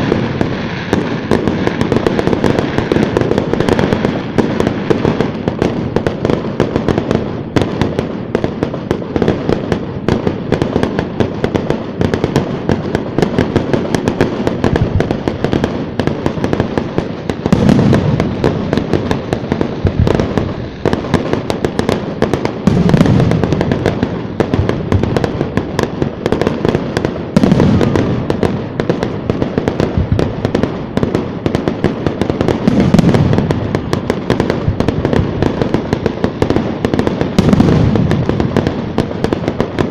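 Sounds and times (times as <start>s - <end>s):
fireworks booming bursts: 0.0s - 39.9s
fireworks crackling and popping: 0.0s - 39.9s.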